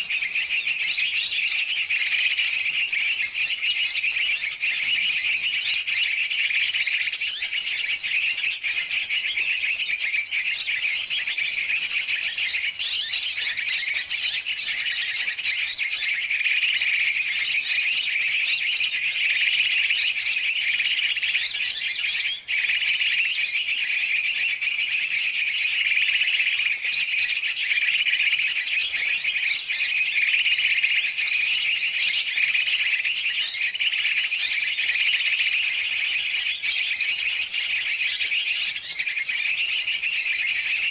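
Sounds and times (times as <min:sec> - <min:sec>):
many small birds chirping: 0:00.0 - 0:40.9.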